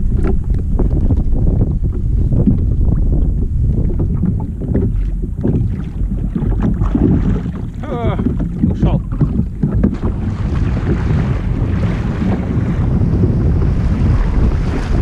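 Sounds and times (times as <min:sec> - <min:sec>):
water slapping against kayak hull: 0:00.0 - 0:15.0
wind buffeting microphone: 0:00.0 - 0:15.0.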